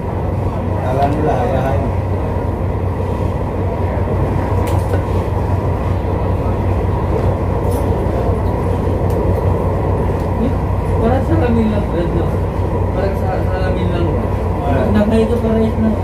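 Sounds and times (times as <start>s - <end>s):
train running inside carriage: 0.0s - 16.0s.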